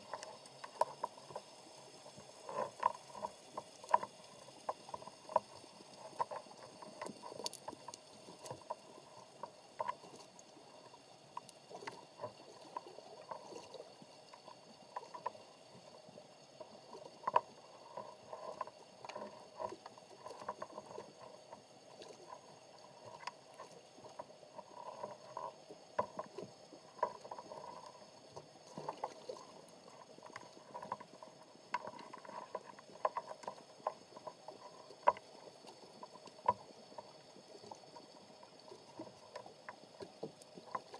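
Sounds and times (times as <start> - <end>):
soft rustling background: 0.0 - 40.9
underwater clicks and knocks: 0.0 - 40.9.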